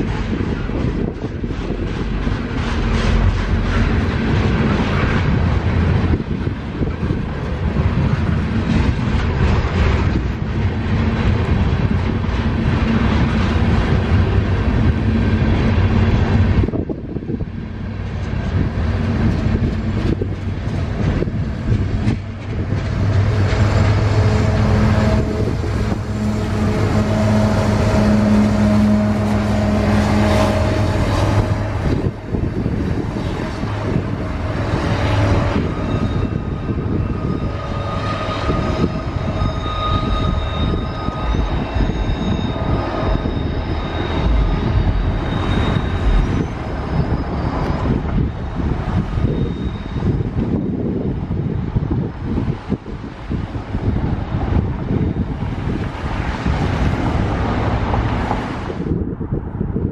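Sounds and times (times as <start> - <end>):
train wheels clacking over rail joints: 0.0 - 50.8
diesel locomotive engine humming: 0.0 - 59.9.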